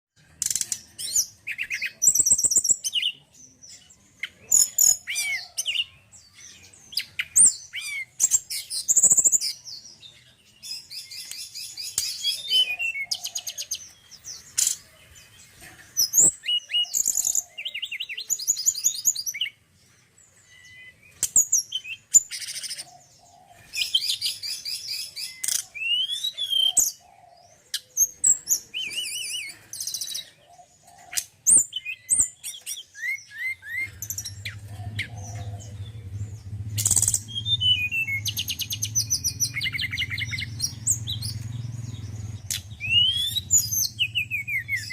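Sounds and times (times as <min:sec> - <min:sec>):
bird singing chirps and trills: 0:00.2 - 0:44.9.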